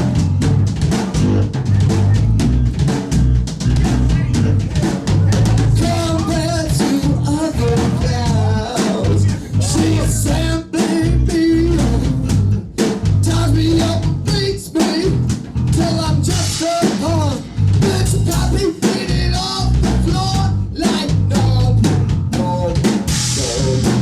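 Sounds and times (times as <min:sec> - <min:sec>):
drum kit beat: 0:00.0 - 0:24.0.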